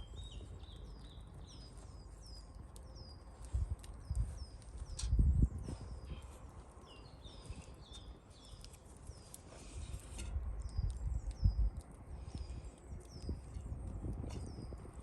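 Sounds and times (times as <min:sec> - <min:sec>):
small birds calling: 0:00.0 - 0:15.0.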